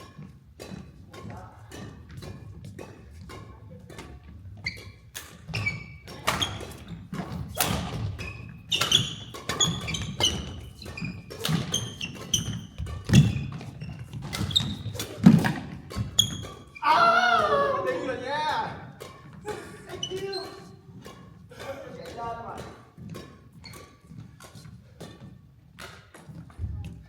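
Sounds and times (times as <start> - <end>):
racket hitting shuttlecock: 0.0 - 27.0
shoes squeaking on court: 2.1 - 16.8, 19.0 - 21.5, 22.6 - 27.0.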